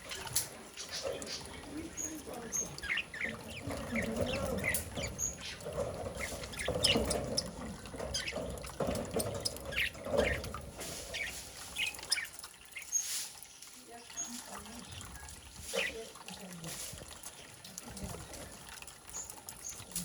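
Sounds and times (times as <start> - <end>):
water splashing: 0.0 - 20.0.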